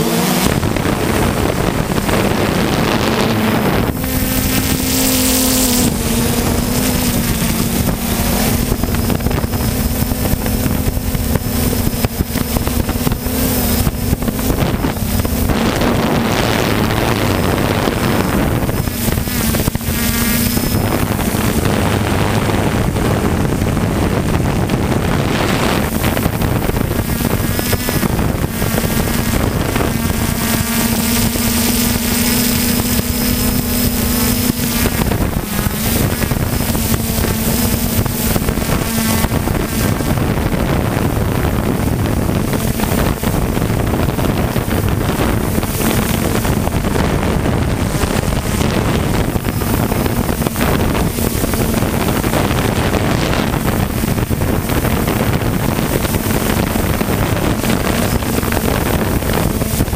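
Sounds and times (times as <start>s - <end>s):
drone propellers buzzing: 0.0s - 59.9s
wind noise on microphone: 0.0s - 59.9s.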